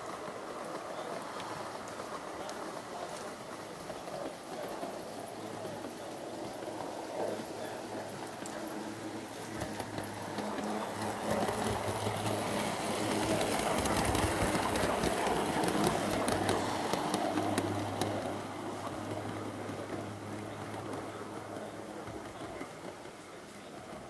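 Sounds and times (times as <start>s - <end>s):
model train rumbling on track: 0.0s - 24.0s.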